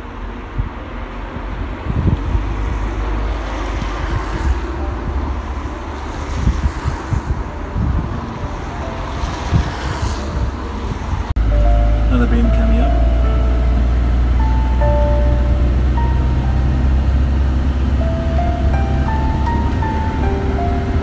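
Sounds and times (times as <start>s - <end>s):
wind buffeting microphone: 0.4s - 21.0s.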